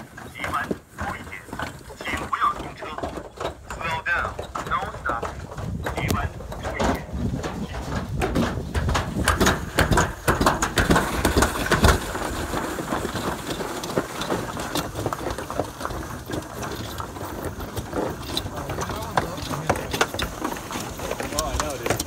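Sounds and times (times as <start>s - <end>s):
sled rattling down a track: 0.0s - 22.0s
small knocks: 0.0s - 22.0s.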